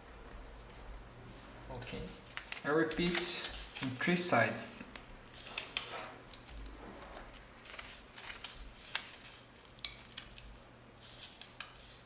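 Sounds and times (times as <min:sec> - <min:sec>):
paper being folded: 0:00.3 - 0:04.3, 0:04.9 - 0:12.0.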